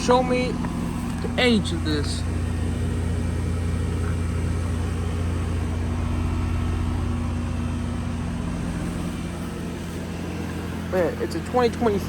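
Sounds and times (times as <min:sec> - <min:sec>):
air conditioner compressor hum: 0:00.0 - 0:12.0
fan air noise: 0:00.0 - 0:12.0.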